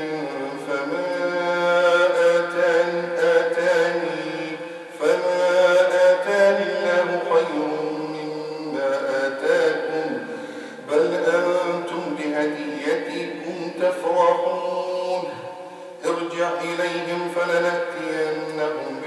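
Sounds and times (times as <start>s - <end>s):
man chanting recitation: 0.0s - 19.0s.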